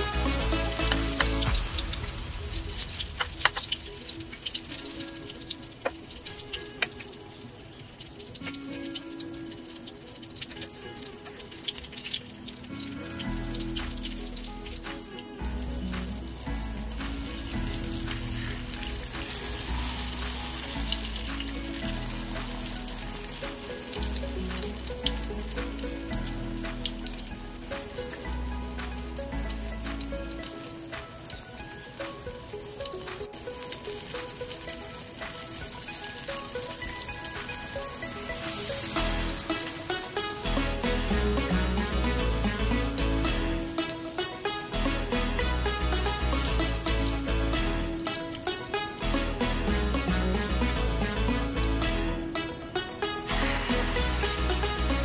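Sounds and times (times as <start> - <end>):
food frying in hot oil: 0.0 - 50.5, 52.3 - 55.0
instrumental background music: 0.0 - 55.0.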